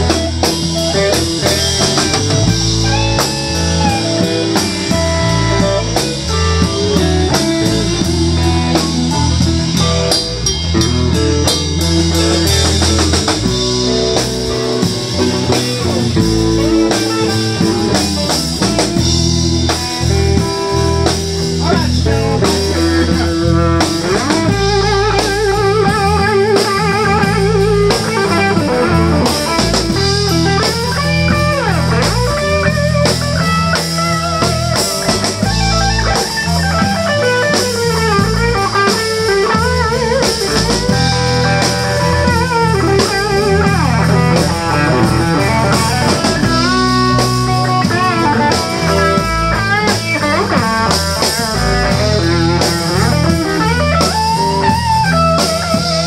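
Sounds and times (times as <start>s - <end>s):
bending lead guitar line: 0.0s - 56.0s
live blues band: 0.0s - 56.0s.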